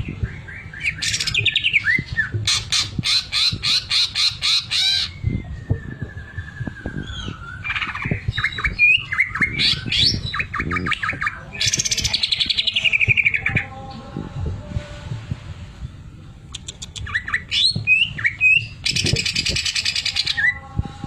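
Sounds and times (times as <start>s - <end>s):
bird whistles and chirps: 0.2s - 13.5s, 16.5s - 20.6s.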